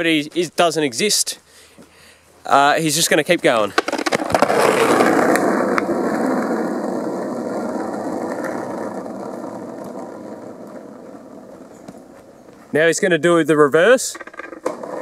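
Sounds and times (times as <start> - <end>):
skateboard wheels rolling on asphalt: 2.5 - 15.0.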